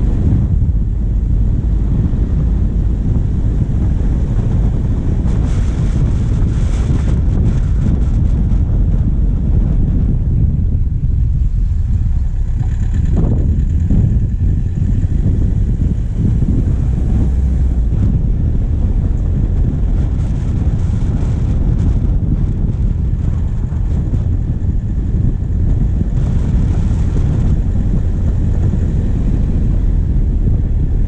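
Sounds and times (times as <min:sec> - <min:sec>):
diesel engine rumbling: 0:00.0 - 0:31.0
wind buffeting microphone: 0:00.0 - 0:31.0.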